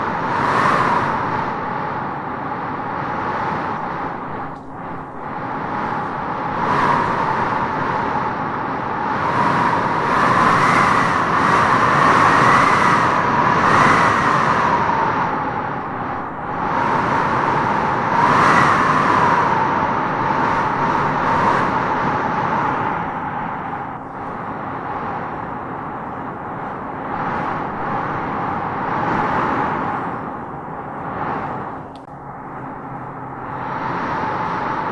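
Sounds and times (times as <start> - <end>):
whistling wind howl: 0.0 - 34.9
wind rushing in gusts: 0.0 - 34.9.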